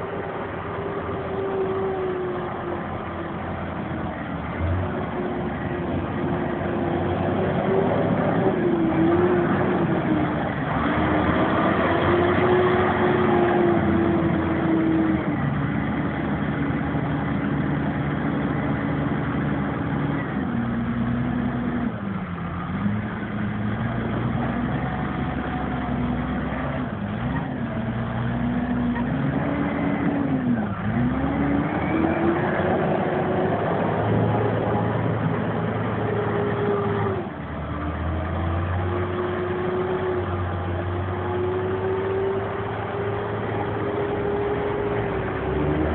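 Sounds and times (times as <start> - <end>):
tractor diesel engines under load: 0.0 - 45.9.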